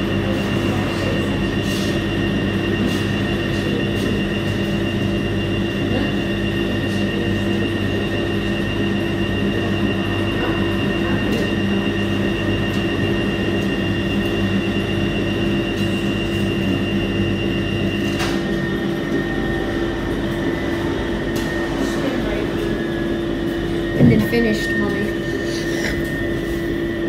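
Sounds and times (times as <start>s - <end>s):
high-pitched whine: 0.0s - 27.0s
washing machine motor hum: 0.0s - 27.0s.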